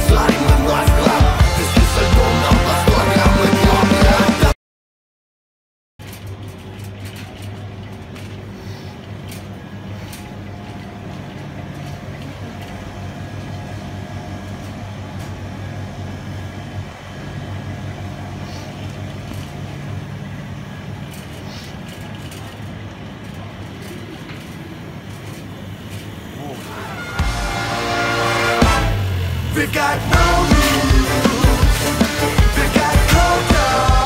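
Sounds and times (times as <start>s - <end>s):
moving vehicle hum and rumble: 6.0s - 34.0s.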